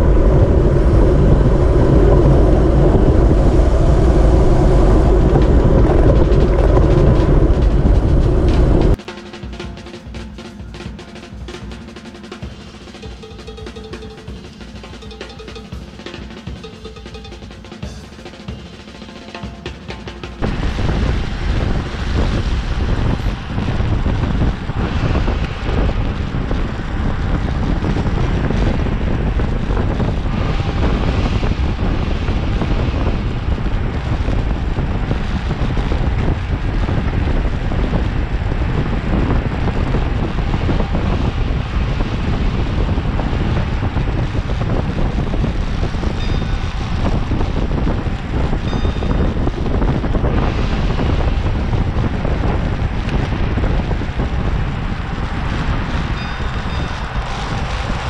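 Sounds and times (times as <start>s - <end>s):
wind rushing over microphone: 0.0s - 9.1s, 19.8s - 58.0s.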